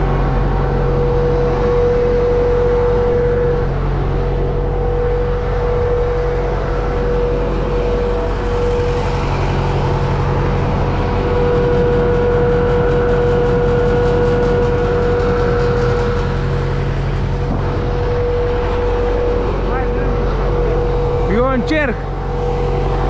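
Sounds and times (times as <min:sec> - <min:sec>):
high whine: 0:00.0 - 0:23.0
tractor diesel engine running: 0:00.0 - 0:23.0.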